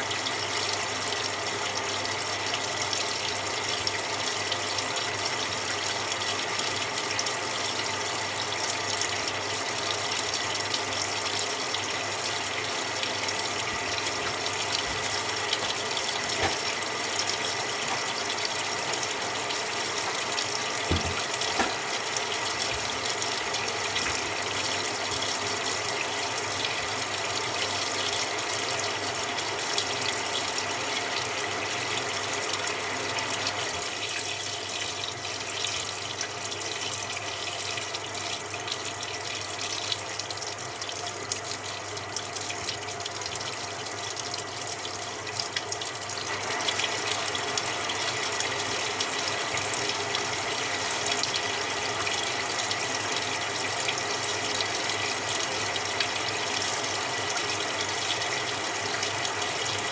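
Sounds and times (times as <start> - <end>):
water pouring into washing machine: 0.0 - 59.9.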